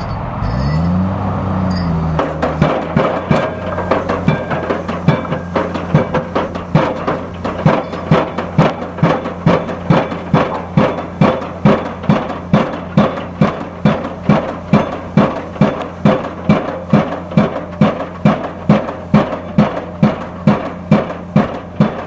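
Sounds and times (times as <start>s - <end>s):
diesel engine droning: 0.0s - 22.0s
impact hammer banging on pile: 2.1s - 22.0s.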